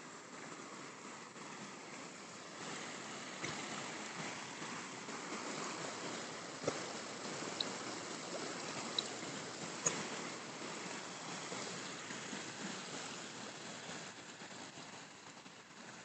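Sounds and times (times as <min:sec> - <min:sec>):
river flowing over rocks: 0:00.0 - 0:16.0.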